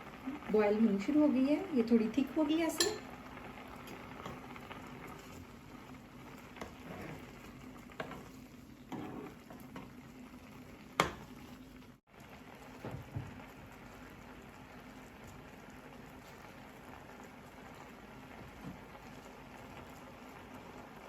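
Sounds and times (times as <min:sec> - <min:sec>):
sauce bubbling in a pan: 0:00.0 - 0:21.0.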